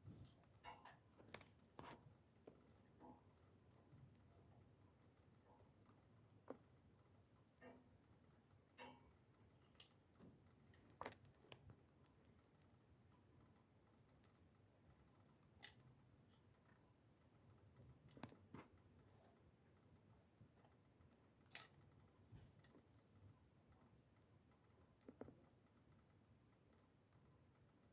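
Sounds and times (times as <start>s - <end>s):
low steady hiss: 0.0s - 27.9s
wood fire crackling: 0.0s - 27.9s.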